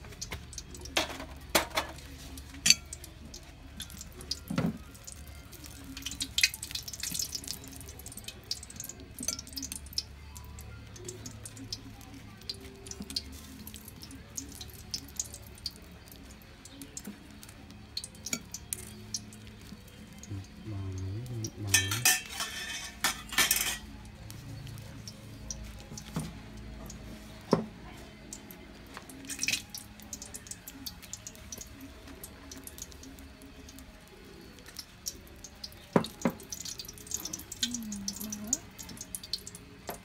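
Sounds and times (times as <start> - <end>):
food deep-frying in oil: 0.0 - 40.0
oil crackles and pops: 0.0 - 40.0.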